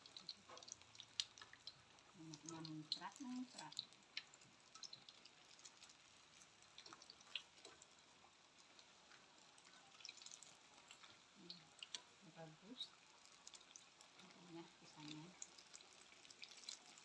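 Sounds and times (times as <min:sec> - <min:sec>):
fritters frying in hot oil: 0:00.0 - 0:17.0.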